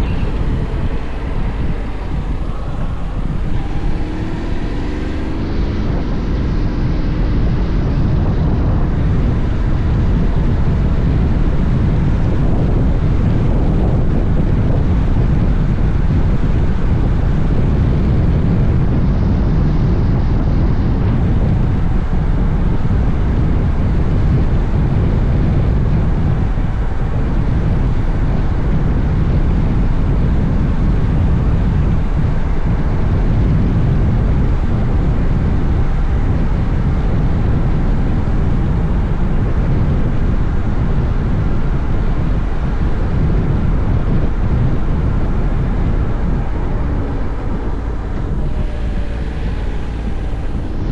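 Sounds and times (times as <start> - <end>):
motorcycle engine: 0.0 - 25.7, 26.3 - 50.9
road noise: 0.0 - 50.9
wind buffeting microphone: 0.0 - 50.9.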